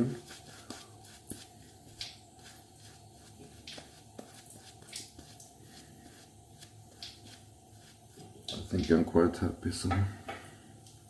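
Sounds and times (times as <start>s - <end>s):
razor scraping stubble: 0.0s - 9.0s.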